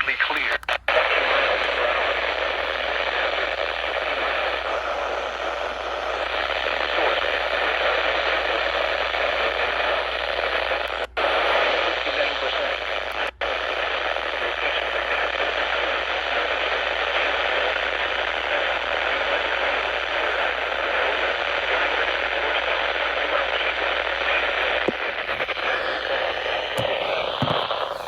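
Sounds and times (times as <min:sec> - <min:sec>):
radio static hiss: 0:00.0 - 0:28.0.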